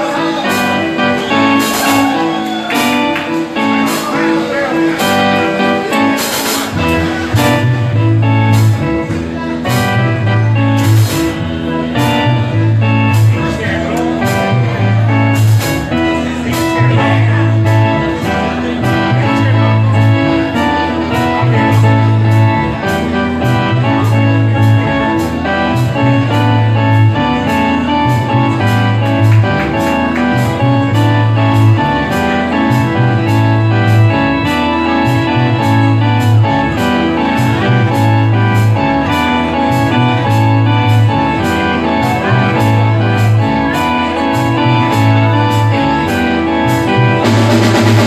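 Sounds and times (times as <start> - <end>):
bass guitar figure: 0.0 - 48.0
keyboard: 0.0 - 48.0.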